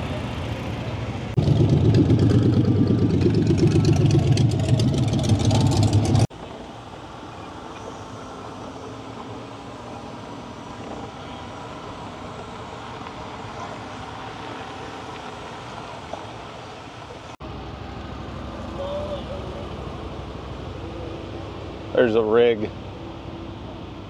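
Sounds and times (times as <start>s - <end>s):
distant vehicles rumble: 0.0s - 24.0s.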